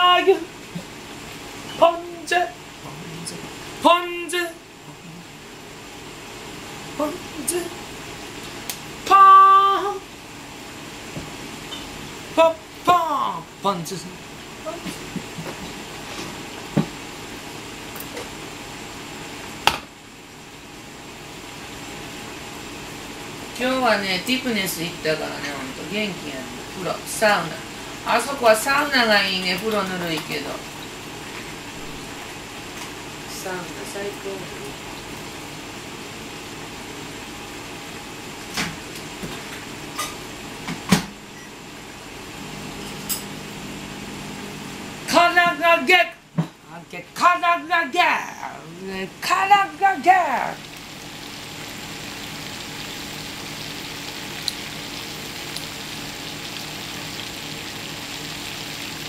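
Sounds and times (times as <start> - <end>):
room hum: 0.0 - 59.0.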